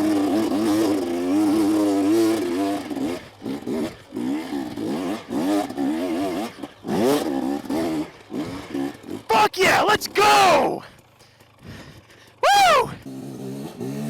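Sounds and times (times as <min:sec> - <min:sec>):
dirt bike engine revving: 0:00.0 - 0:10.9, 0:11.5 - 0:14.0.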